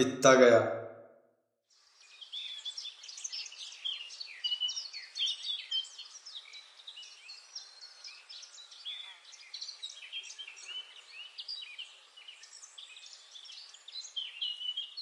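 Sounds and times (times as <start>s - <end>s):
small birds chirping: 1.7s - 15.0s.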